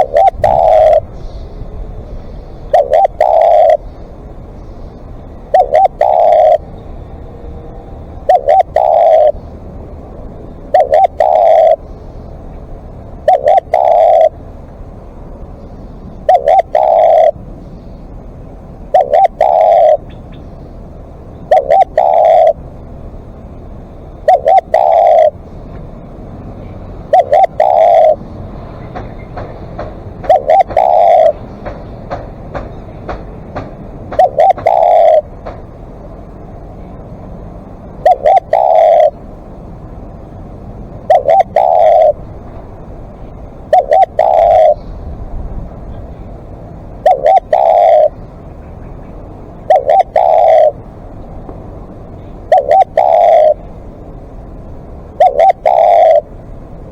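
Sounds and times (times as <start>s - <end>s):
dove cooing: 0.0s - 17.8s, 18.5s - 20.5s, 21.2s - 35.7s, 37.9s - 39.3s, 40.8s - 54.2s, 55.0s - 56.9s.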